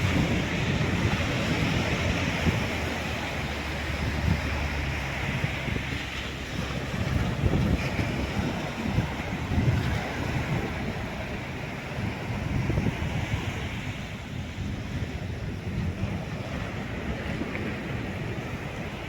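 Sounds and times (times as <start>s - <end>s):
waves washing on sandy shore: 0.0s - 19.0s
wind buffeting microphone: 0.0s - 19.0s.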